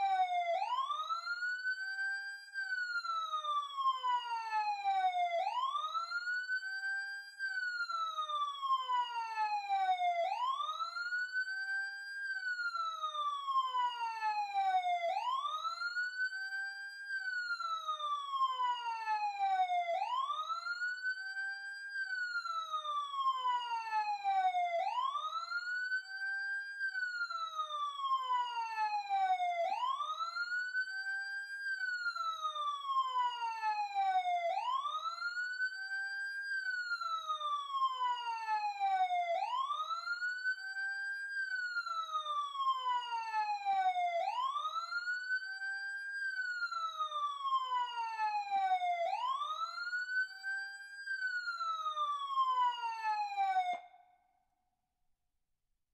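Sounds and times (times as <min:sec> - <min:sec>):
emergency vehicle siren wailing: 0:00.0 - 0:54.2.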